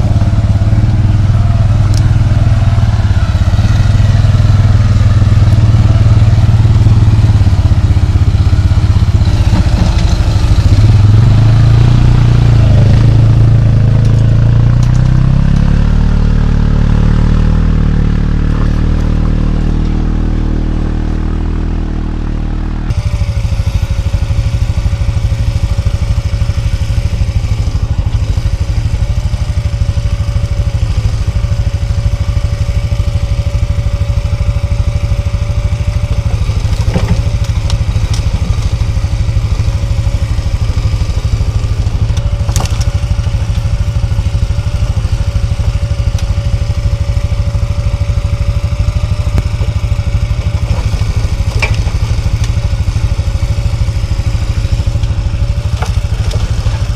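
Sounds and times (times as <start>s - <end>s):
quad bike engine running: 0.0s - 56.9s.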